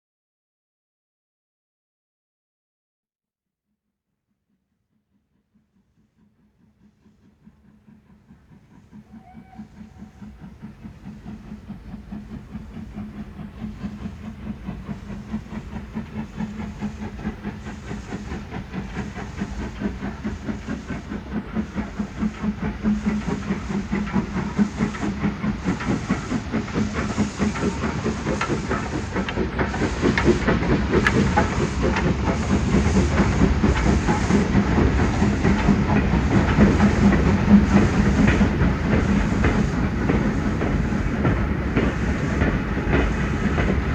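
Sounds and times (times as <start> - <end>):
steam train chugging: 5.5 - 43.9
steam hiss: 8.1 - 43.9.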